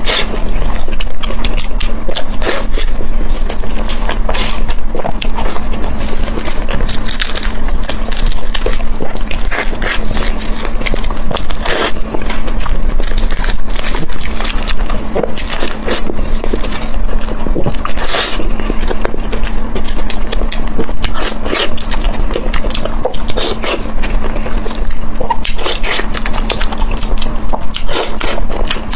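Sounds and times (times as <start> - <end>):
steady low hum: 0.0 - 28.9
wet chewing: 0.0 - 28.9.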